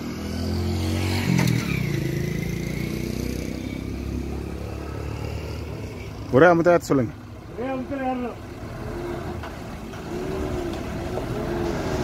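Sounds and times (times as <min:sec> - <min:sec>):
vehicle engines humming: 0:00.0 - 0:12.0.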